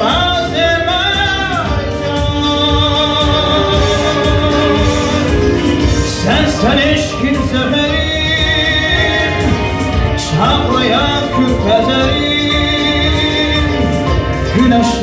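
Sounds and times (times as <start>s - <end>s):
instrumental backing: 0.0s - 15.0s
man singing into microphone: 0.0s - 15.0s.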